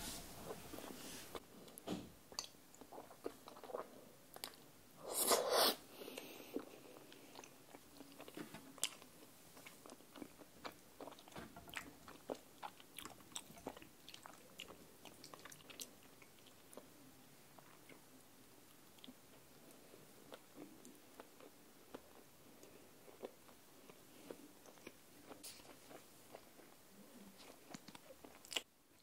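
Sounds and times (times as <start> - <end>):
chewing with mouth clicks: 1.7 - 4.6, 6.2 - 16.9, 18.7 - 29.0.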